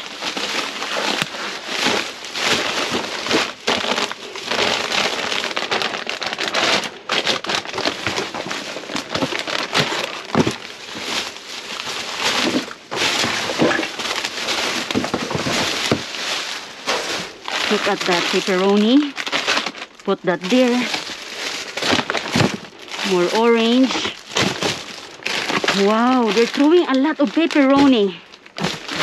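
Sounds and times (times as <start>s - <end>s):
plastic bags rustling: 0.0s - 29.0s.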